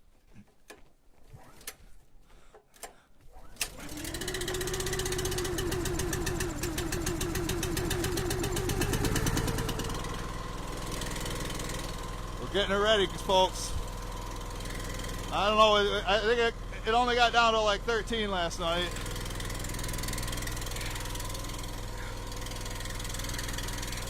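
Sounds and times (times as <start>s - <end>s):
small gasoline engine running: 3.6s - 24.0s.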